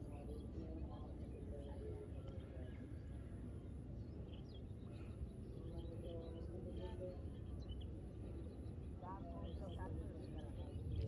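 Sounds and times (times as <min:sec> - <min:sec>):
faint distant voices: 0:00.0 - 0:11.0.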